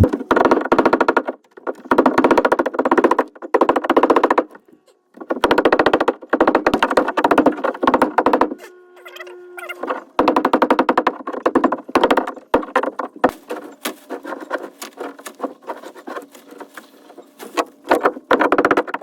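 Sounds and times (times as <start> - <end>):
power tool hammering and chipping: 0.0 - 9.0, 9.8 - 19.0.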